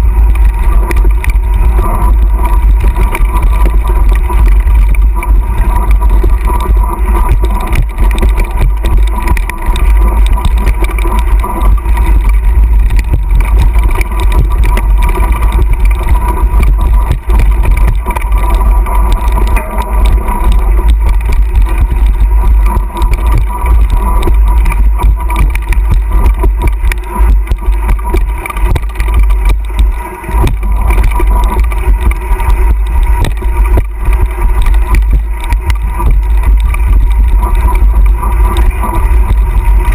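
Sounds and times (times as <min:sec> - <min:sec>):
bicycle knocking and rattling: 0:00.0 - 0:39.9.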